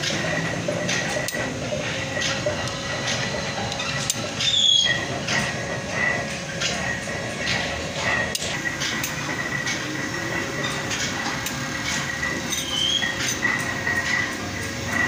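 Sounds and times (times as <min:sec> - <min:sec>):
roller bearing metallic clatter: 0:00.0 - 0:15.0.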